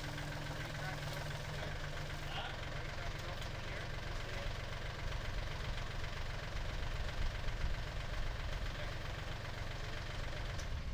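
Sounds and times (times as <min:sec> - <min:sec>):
tractor diesel engine running: 0:00.0 - 0:10.9.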